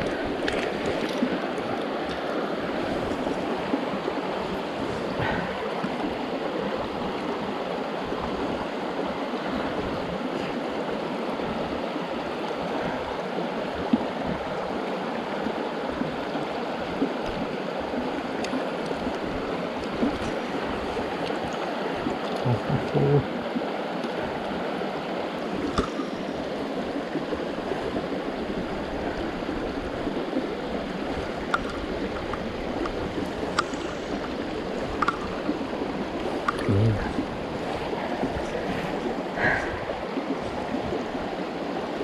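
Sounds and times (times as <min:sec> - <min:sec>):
stream rushing over rocks: 0:00.0 - 0:42.0.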